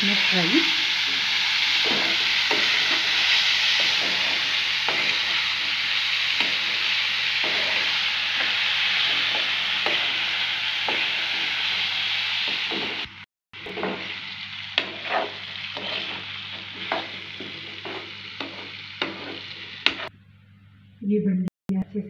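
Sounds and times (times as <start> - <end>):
lentils sizzling in oil: 0.0 - 20.1
spatula scraping a pan: 1.0 - 11.9, 12.5 - 20.1.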